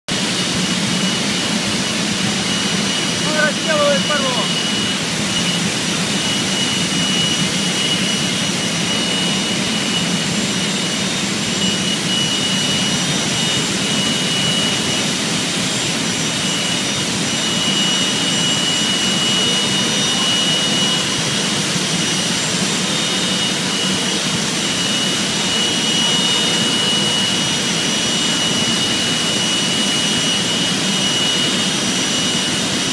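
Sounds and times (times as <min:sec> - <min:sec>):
steel furnace roaring: 0:00.1 - 0:32.9
thin high whine: 0:00.1 - 0:32.9.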